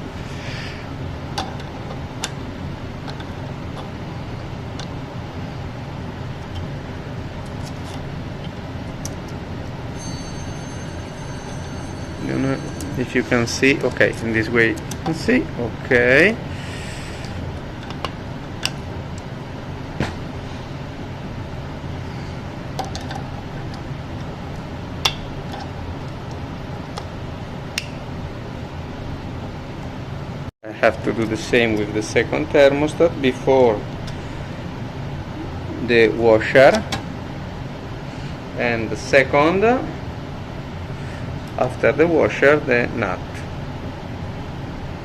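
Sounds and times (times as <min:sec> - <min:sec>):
low steady hum: 0:00.0 - 0:45.0.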